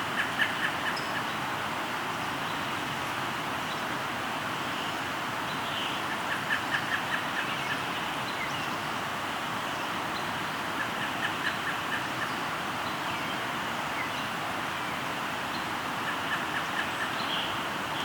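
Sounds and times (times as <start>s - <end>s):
river flowing: 0.0s - 18.0s.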